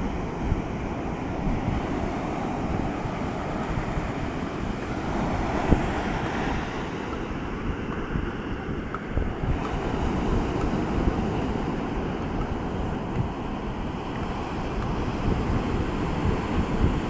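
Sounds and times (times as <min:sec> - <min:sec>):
surf breaking on beach: 0:00.0 - 0:17.0
wind rumbling on microphone: 0:00.0 - 0:17.0.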